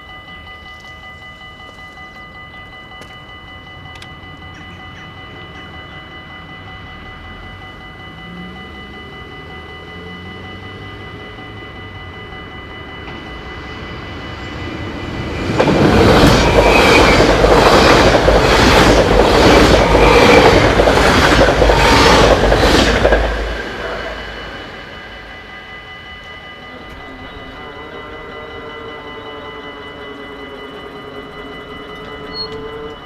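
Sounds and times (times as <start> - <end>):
crossing warning bell ringing: 0.0 - 33.0
train wheels clacking on rails: 0.0 - 33.0.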